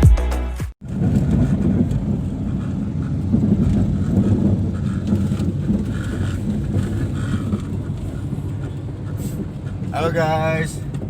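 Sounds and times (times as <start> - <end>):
vehicle engine and road rumble: 0.8 - 11.0.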